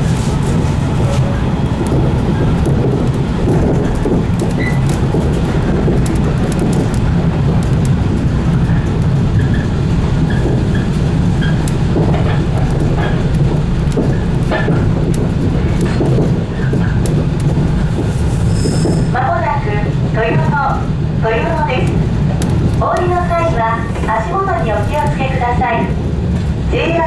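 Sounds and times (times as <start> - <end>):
electric train running: 0.0 - 26.6
wheels rumbling on rail: 0.0 - 27.0.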